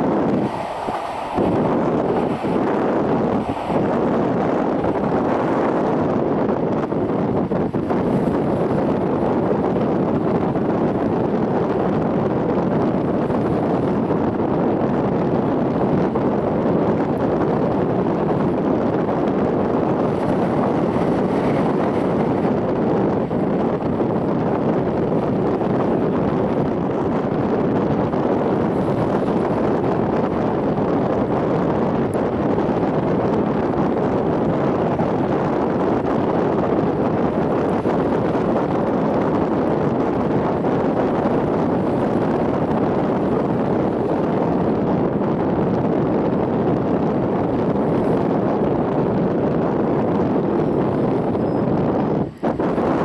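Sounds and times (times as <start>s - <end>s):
train running rumble: 0.0s - 53.0s.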